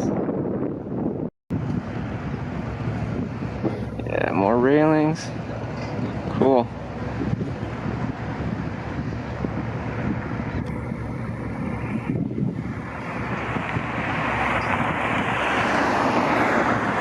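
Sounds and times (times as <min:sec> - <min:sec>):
traffic rumble: 0:00.0 - 0:17.0
wind rushing: 0:00.0 - 0:17.0.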